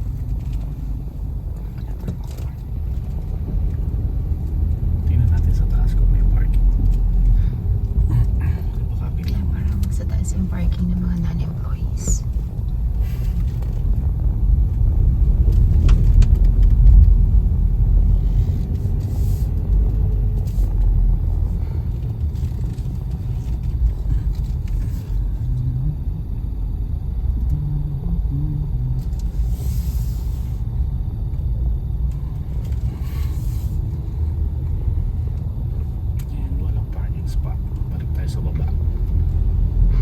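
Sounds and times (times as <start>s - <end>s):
car driving rumble: 0.0s - 40.0s.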